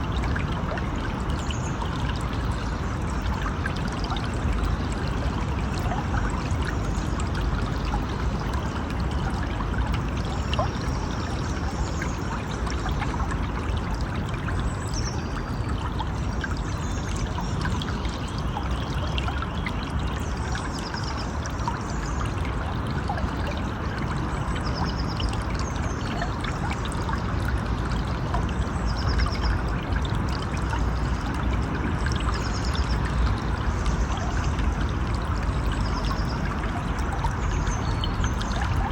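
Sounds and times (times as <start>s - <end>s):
stream rushing and trickling: 0.0s - 38.9s.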